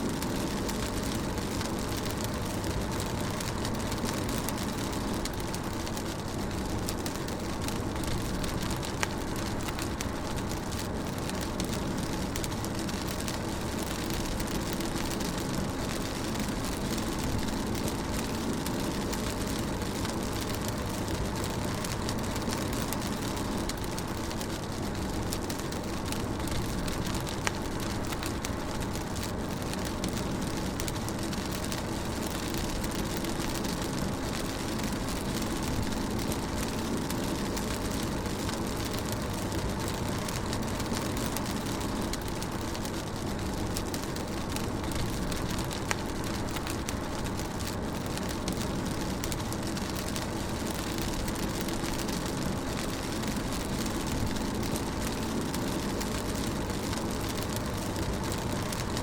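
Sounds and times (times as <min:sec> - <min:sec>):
rain drop ticks: 0:00.0 - 0:59.0
rain hissing on a car: 0:00.0 - 0:59.0.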